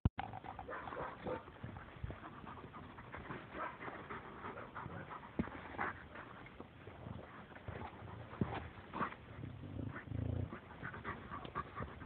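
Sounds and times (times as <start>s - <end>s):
dogs panting: 0.6s - 12.0s.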